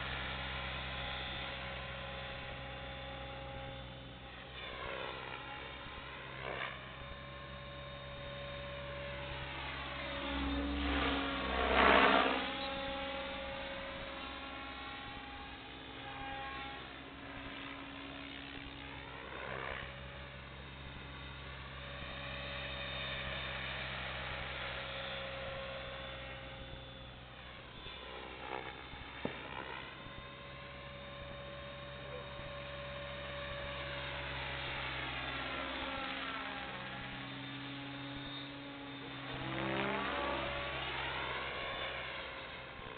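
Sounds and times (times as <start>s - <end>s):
radio-controlled helicopter whine: 0.0s - 42.9s.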